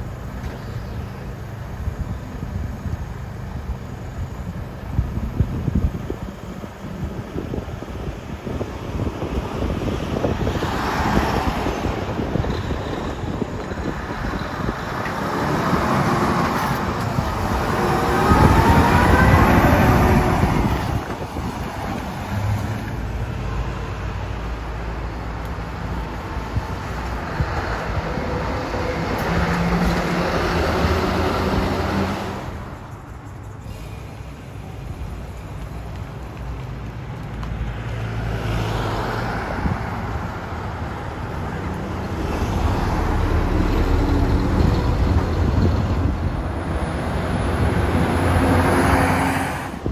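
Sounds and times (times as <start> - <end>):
road traffic passing: 0.0 - 49.9
truck diesel engine at low revs: 0.0 - 49.9.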